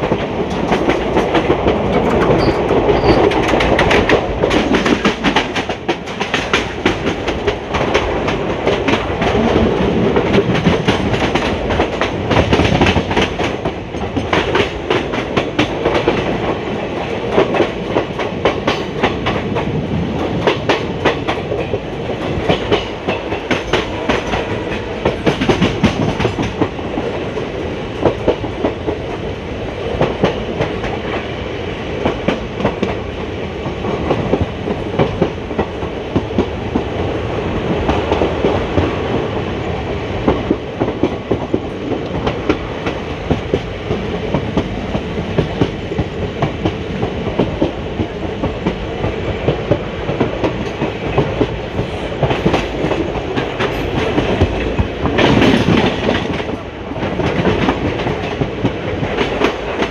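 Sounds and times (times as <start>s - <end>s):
train wheels clickety-clack: 0.0s - 59.9s.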